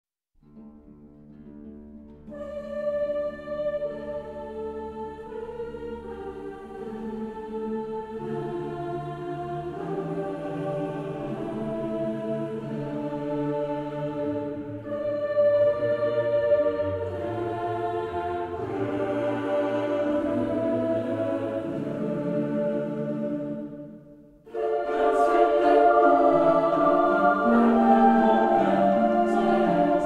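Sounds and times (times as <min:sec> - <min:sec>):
choir holding sustained chords: 0:02.3 - 0:30.0.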